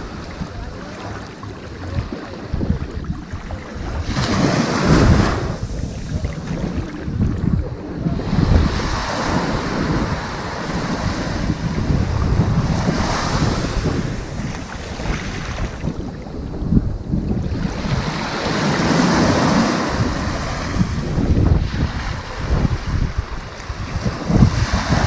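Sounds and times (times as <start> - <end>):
ocean waves on sandy beach: 0.0 - 25.0.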